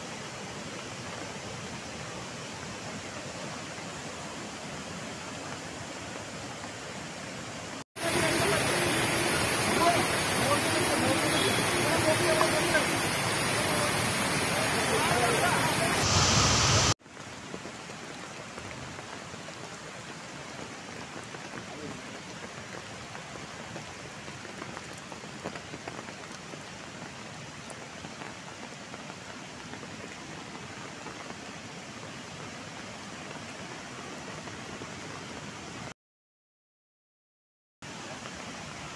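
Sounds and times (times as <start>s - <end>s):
floodwater rushing: 0.0s - 35.9s, 37.9s - 38.9s
heavy rain: 0.0s - 35.9s, 37.8s - 38.9s.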